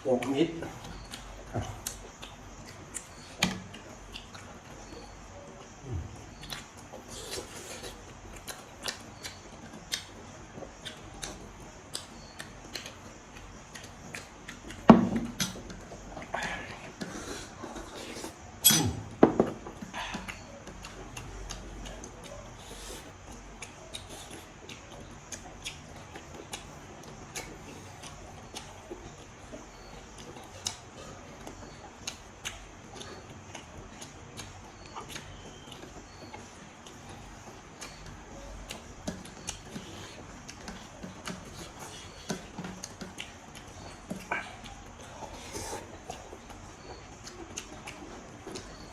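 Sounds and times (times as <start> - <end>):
chewing and eating smacks: 0.0 - 18.6, 19.4 - 48.9.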